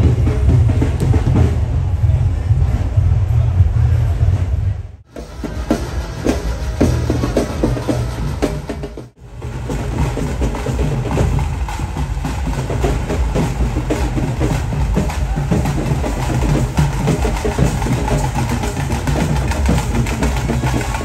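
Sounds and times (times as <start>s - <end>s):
deep bass drum: 0.0s - 21.0s
rapid drumming: 0.0s - 21.0s.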